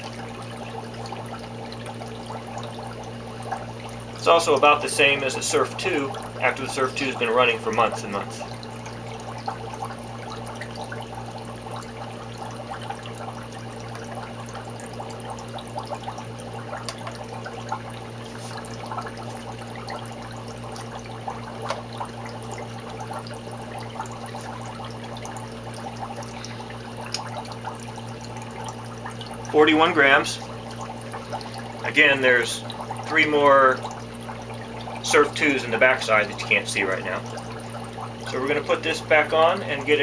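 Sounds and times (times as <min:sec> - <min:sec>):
water drips and splashes: 0:00.0 - 0:40.0
water trickling: 0:00.0 - 0:40.0.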